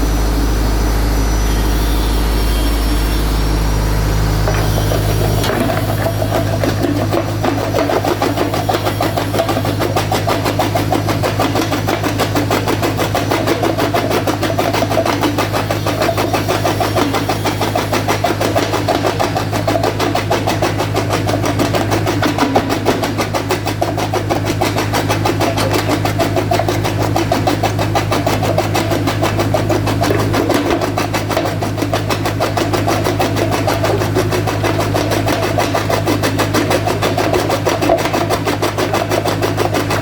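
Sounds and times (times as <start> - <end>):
crusher machine running: 0.0 - 40.0.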